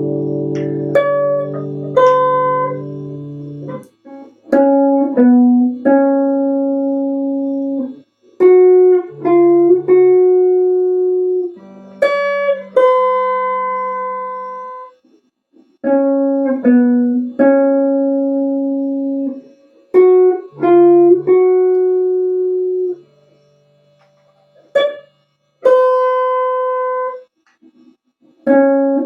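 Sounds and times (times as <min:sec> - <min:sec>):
slow melody of ringing notes: 0:00.0 - 0:15.1, 0:15.9 - 0:27.2.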